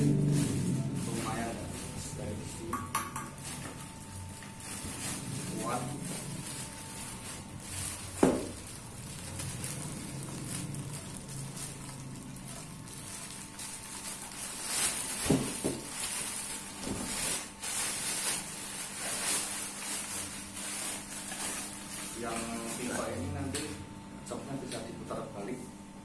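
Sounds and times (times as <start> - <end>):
plastic bags crinkling: 0.0 - 23.2.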